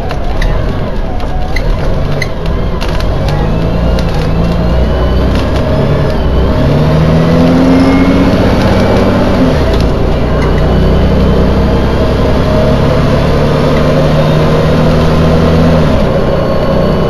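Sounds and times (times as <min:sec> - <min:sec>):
bus diesel engine rumbling: 0:00.0 - 0:17.0.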